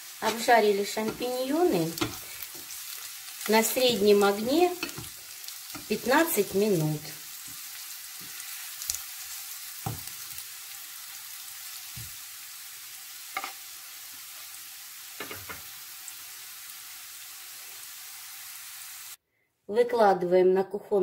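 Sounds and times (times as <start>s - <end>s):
mushrooms sizzling in a frying pan: 0.0s - 19.2s.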